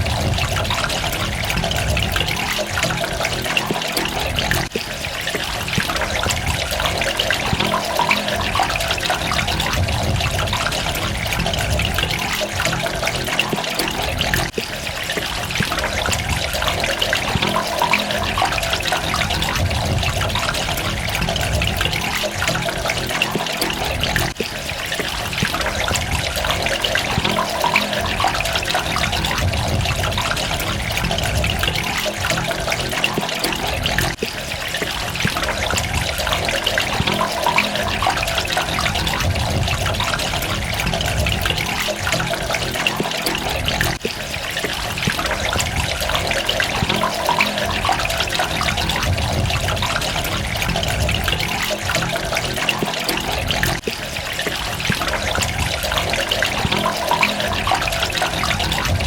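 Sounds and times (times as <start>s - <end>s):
running water splashing: 0.0s - 59.0s.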